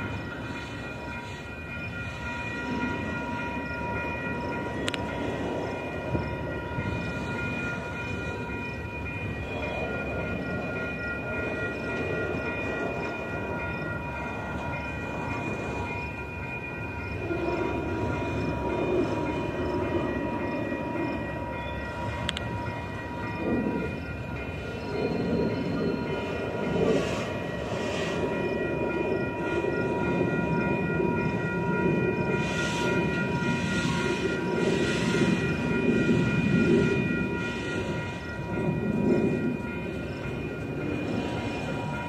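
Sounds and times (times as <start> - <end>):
steady high ringing tone: 0.0 - 42.0
train wheels rumbling on rails: 0.0 - 42.0.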